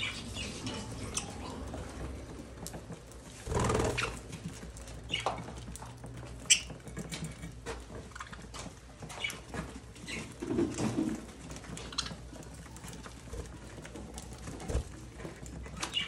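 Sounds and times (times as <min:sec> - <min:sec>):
birds pecking and cracking seeds: 0:00.0 - 0:16.0.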